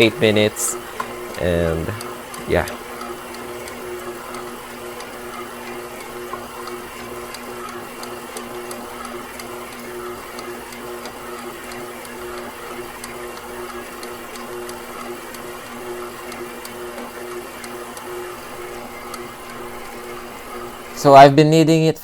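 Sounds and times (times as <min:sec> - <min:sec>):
stand mixer motor humming: 0:00.0 - 0:21.3.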